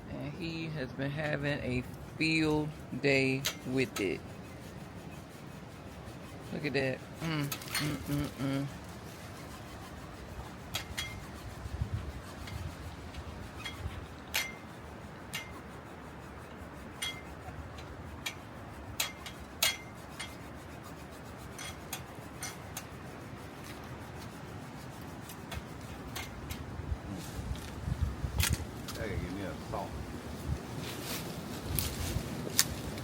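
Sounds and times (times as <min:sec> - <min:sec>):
faint background hiss: 0:00.0 - 0:33.0.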